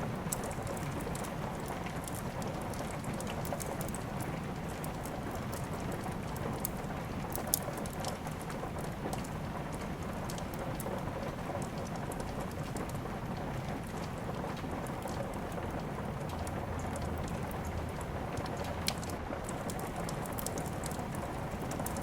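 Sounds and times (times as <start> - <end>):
steady rain falling: 0.0 - 22.0
wood fire crackling and popping: 0.0 - 22.0.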